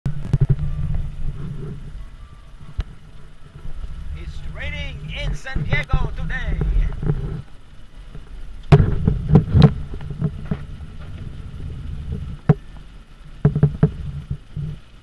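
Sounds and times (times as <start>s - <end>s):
car road rumble: 0.0s - 15.0s
raindrops tapping on windshield: 0.1s - 15.0s.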